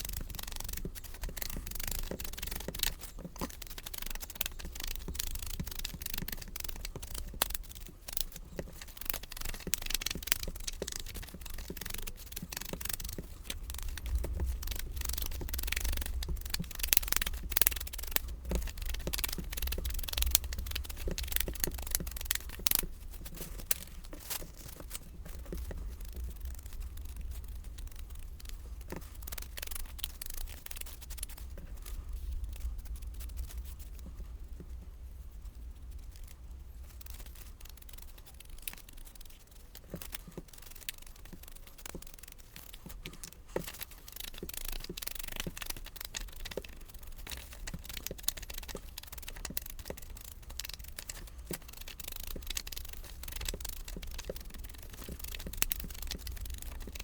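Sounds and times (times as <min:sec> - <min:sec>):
cardstock scrubbing and rustling: 0:00.0 - 0:33.4, 0:36.8 - 0:57.0
low steady hum: 0:00.0 - 0:57.0.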